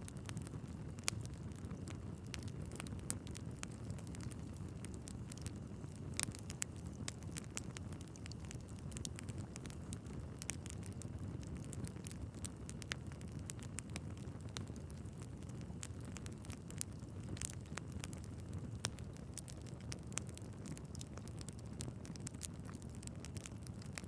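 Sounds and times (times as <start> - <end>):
logs crackling and popping: 0.0 - 24.0
low rumble of flames: 0.0 - 24.0.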